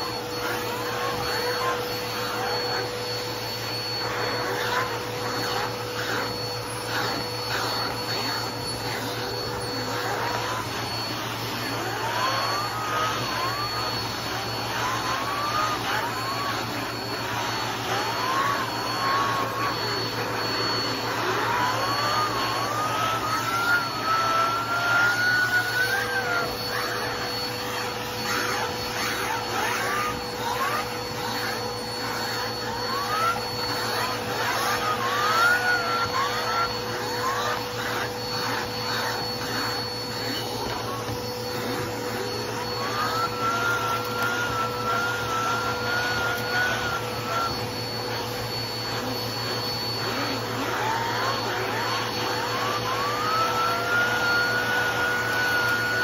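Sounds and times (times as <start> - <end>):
suction whistling: 0.0 - 56.0
vacuum cleaner running: 0.0 - 56.0.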